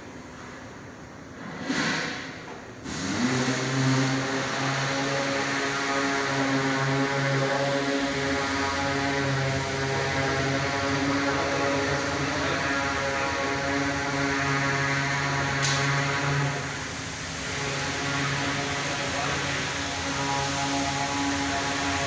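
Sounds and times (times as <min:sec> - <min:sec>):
generator engine droning: 0:02.9 - 0:22.0.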